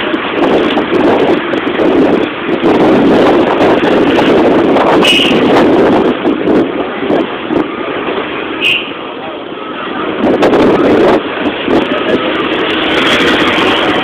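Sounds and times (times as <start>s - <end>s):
road vehicle rumble: 0.0s - 14.0s
wind buffeting microphone: 0.0s - 14.0s.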